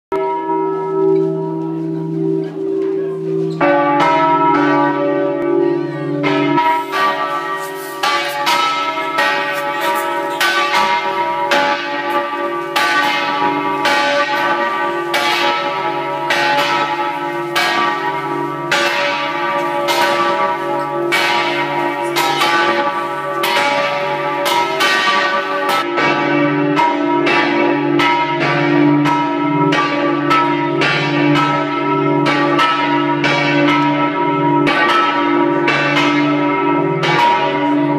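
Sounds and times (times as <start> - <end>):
large church bells pealing: 0.1 - 37.9.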